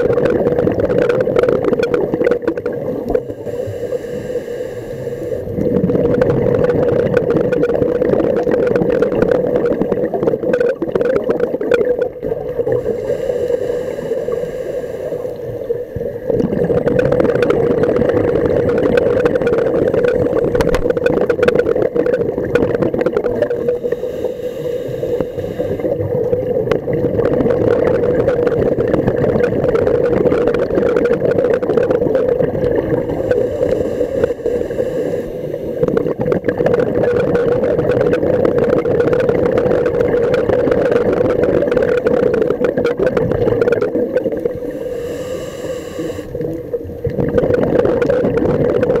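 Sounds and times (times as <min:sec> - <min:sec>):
muffled underwater drone: 0:00.0 - 0:49.0
underwater crackling: 0:00.0 - 0:49.0.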